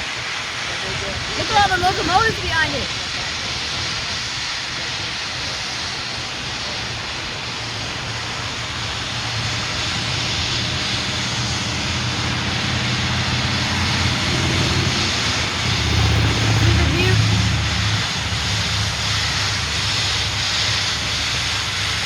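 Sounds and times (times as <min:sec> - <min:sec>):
diesel locomotives rumbling past: 0:00.0 - 0:22.0.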